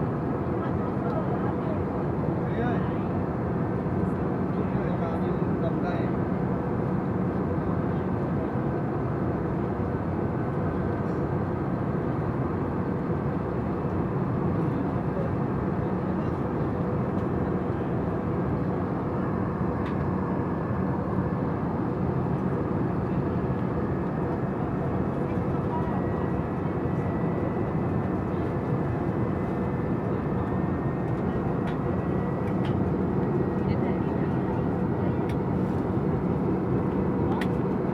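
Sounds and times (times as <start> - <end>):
airliner cabin drone: 0.0 - 37.9.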